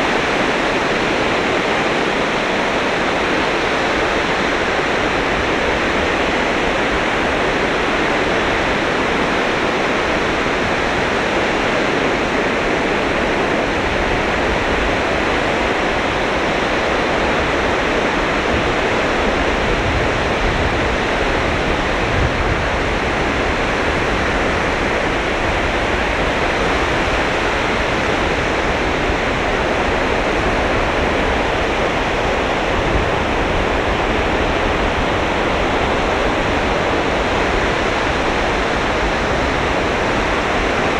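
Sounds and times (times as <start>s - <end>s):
surf washing onto beach: 0.0s - 40.9s.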